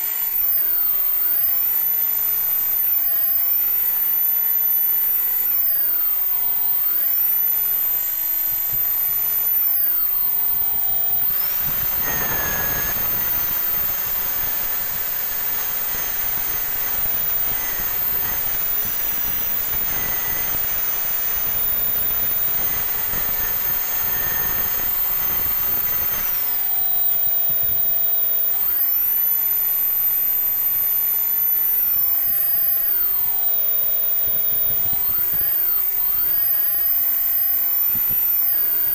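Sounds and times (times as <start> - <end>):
electric power tool whining: 0.0 - 38.9.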